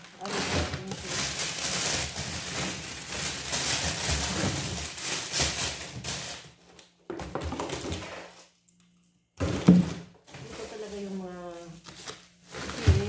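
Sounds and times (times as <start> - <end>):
plastic bags rustling and crinkling: 0.0 - 8.5, 9.4 - 13.0.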